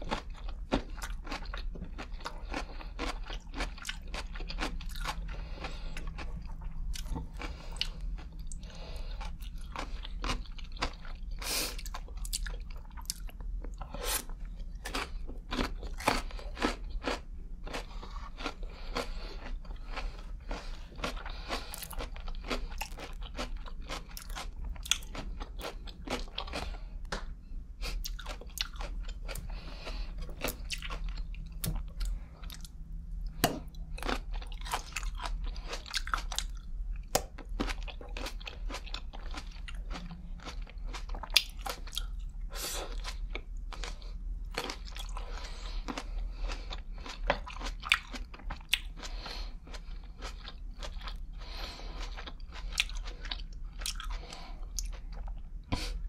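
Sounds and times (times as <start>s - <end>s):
chewing crunchy pickle: 0.0s - 56.0s.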